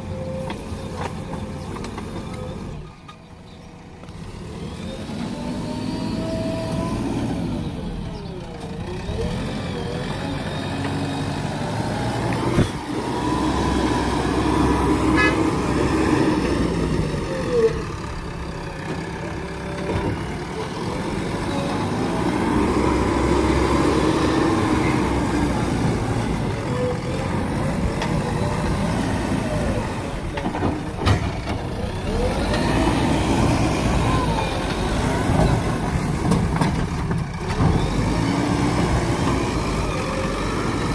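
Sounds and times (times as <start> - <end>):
diesel engine working under load: 0.0 - 40.9.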